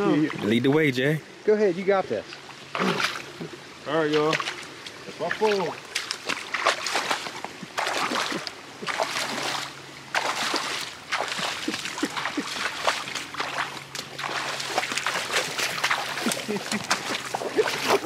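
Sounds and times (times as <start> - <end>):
legs wading through water: 0.0 - 18.0
water sloshing and splashing: 0.0 - 18.0.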